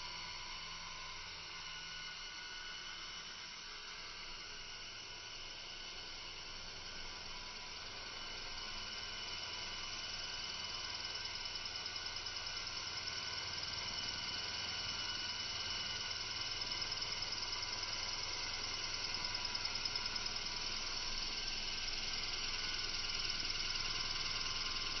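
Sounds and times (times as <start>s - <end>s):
rc helicopter rotor whine: 0.0s - 25.0s.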